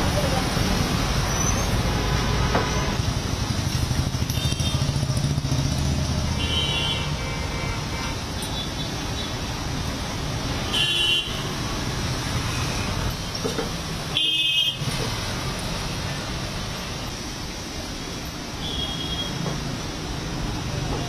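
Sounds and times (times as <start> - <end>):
street traffic rumbling: 0.0 - 21.0.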